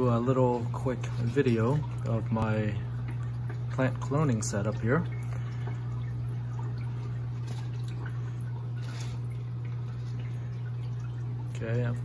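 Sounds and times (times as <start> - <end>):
pump humming: 0.0 - 12.0.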